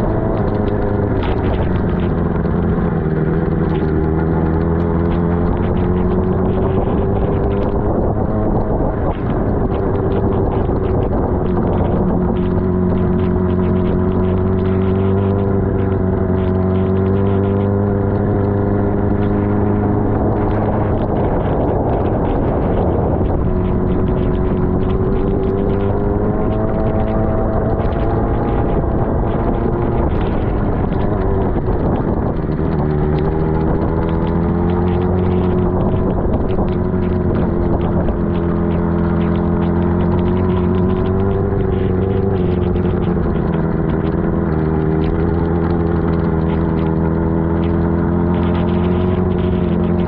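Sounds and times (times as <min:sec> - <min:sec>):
motorcycle engine running low speed: 0:00.0 - 0:50.0
tyres on wet pavement: 0:00.0 - 0:50.0
wind rushing on microphone: 0:00.0 - 0:50.0.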